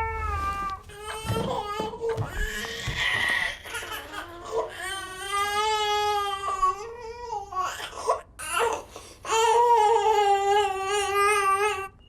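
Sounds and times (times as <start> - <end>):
infant crying: 0.0 - 11.9.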